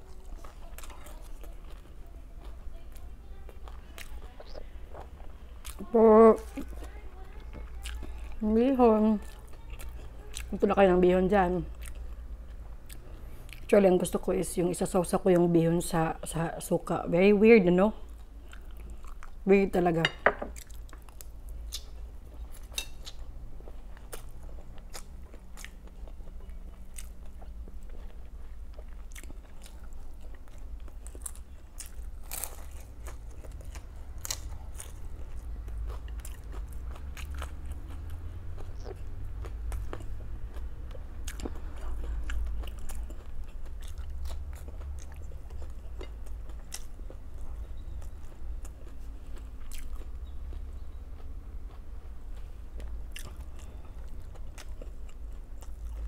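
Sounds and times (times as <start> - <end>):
person chewing crunchy food: 0.0 - 7.0, 11.7 - 13.7, 18.1 - 19.4, 20.5 - 56.0
low steady hum: 0.0 - 56.0.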